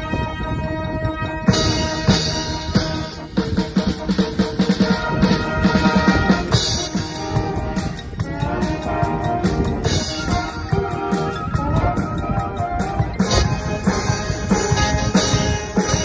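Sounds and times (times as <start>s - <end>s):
drums keeping a quick beat: 0.0s - 16.0s
wind band playing: 0.0s - 16.0s.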